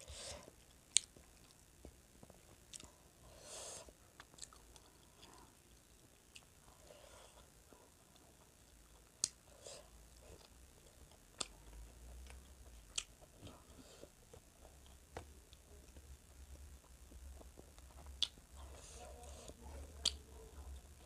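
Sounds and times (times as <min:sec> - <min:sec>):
person chewing food: 0:00.0 - 0:20.2.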